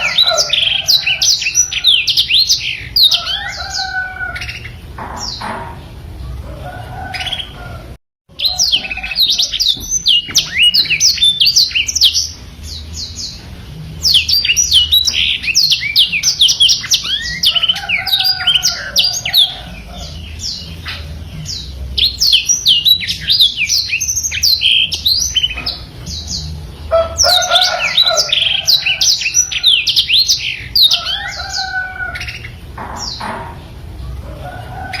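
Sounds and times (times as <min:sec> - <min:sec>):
canary singing high chirps: 0:00.0 - 0:35.0.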